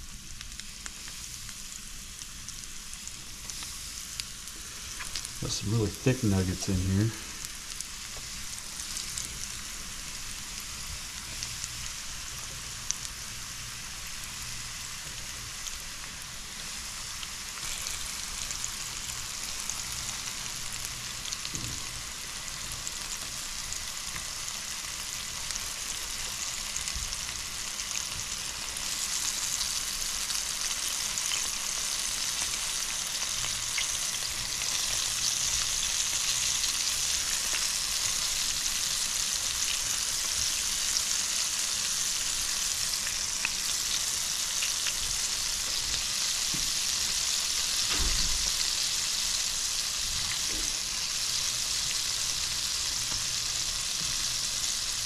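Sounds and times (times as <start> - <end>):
fish frying in hot oil: 0.0 - 55.0.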